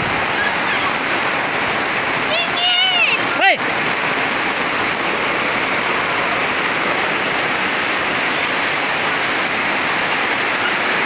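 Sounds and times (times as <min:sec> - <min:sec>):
heavy rain on paving: 0:00.0 - 0:11.0.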